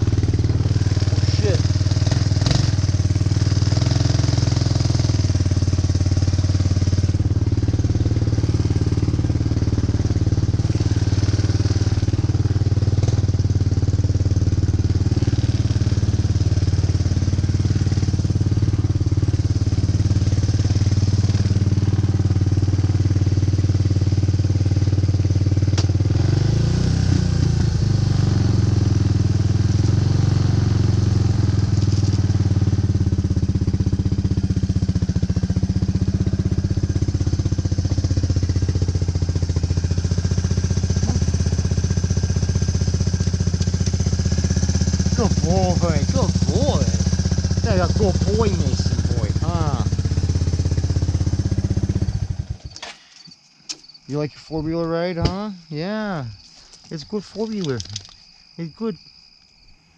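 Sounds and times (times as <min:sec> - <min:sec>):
atv engine running: 0:00.0 - 0:52.8, 0:54.6 - 0:58.2.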